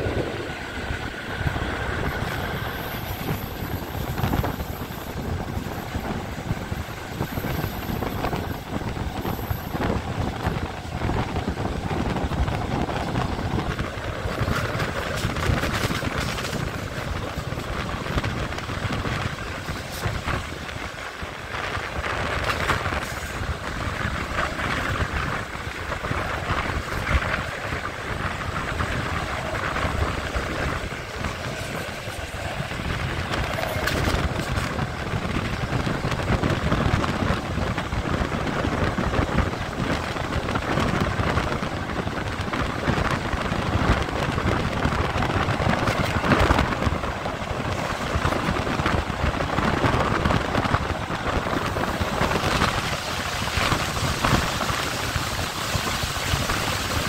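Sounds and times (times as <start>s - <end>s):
rushing wind: 0.0s - 57.0s
train wheels rumbling on rails: 0.0s - 57.0s.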